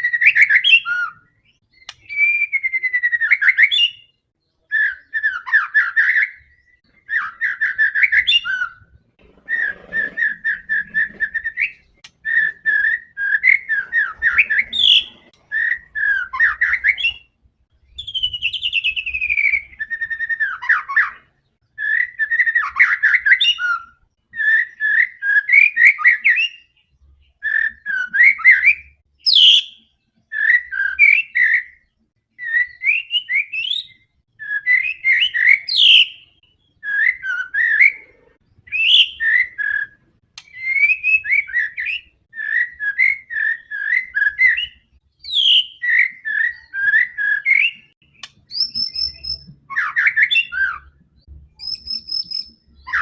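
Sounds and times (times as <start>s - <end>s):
bird singing whistles and trills: 0.0s - 51.0s, 51.6s - 53.0s.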